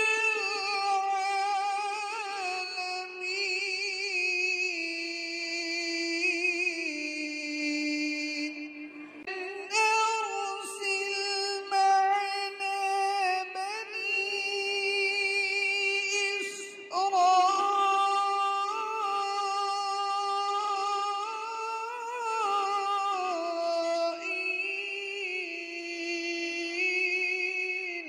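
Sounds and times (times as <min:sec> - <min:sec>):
man chanting recitation: 0:00.0 - 0:28.0.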